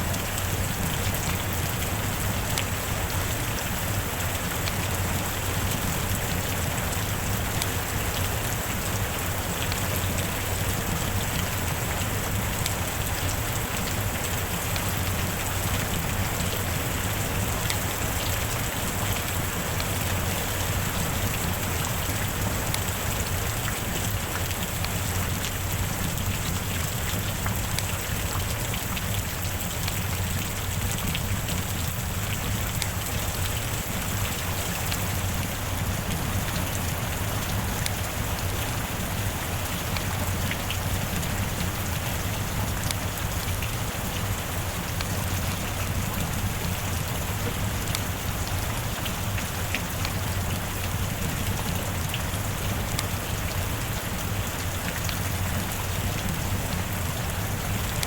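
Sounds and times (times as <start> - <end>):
rain drops ticking: 0.0 - 58.0
steady rain hiss: 0.0 - 58.0.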